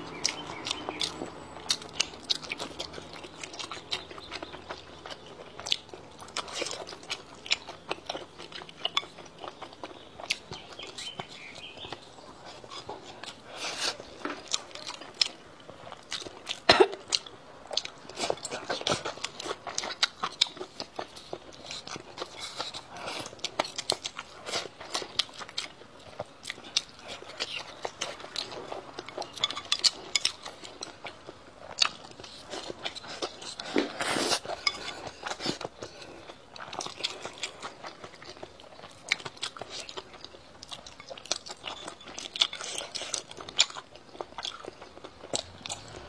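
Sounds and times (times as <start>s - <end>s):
person chewing and biting food: 0.0s - 46.0s.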